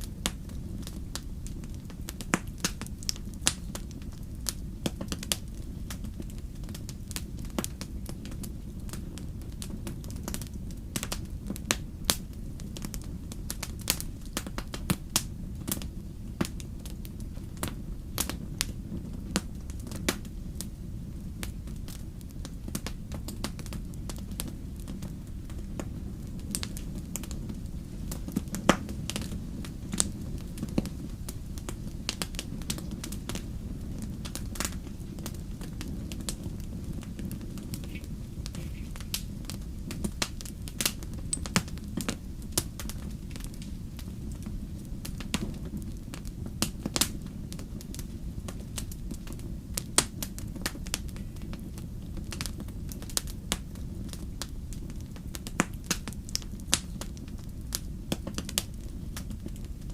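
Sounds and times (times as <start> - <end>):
burning wood popping: 0.0 - 59.9
campfire crackling: 0.0 - 59.9
low rumble of flames: 0.0 - 59.9.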